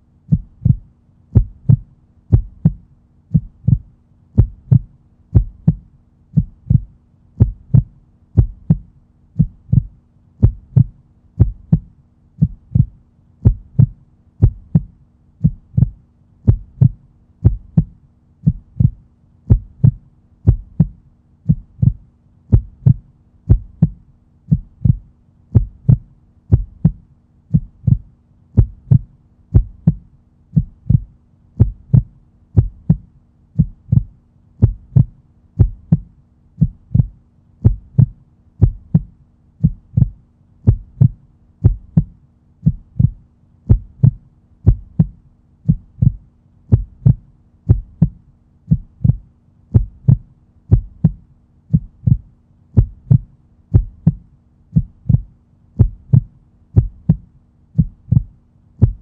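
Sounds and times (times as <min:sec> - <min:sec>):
heartbeat: 0:00.2 - 0:59.0.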